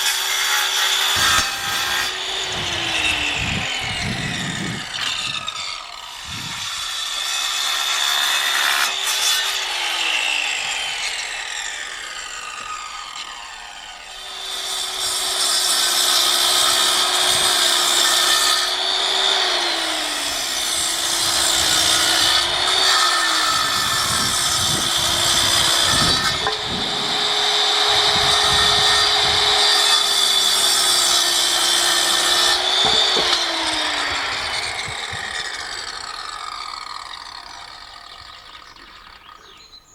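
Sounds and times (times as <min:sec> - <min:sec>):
power saw cutting wood: 0:00.0 - 0:39.6.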